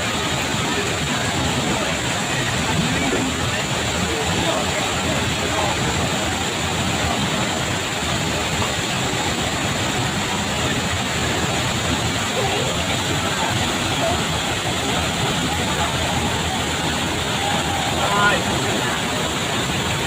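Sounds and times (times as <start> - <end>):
faint voices: 0.0 - 20.0
waterfall rushing: 0.0 - 20.0.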